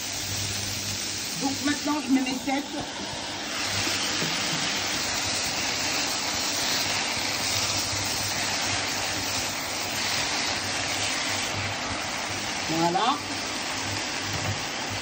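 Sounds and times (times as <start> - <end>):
mushrooms sizzling in oil: 0.0 - 15.0.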